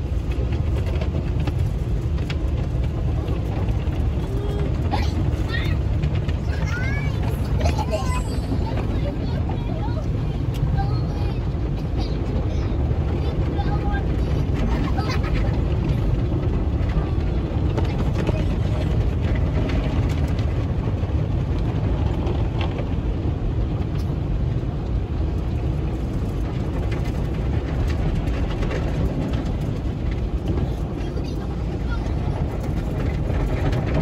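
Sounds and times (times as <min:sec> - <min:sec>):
car wash water spray and brushes: 0:00.0 - 0:34.0.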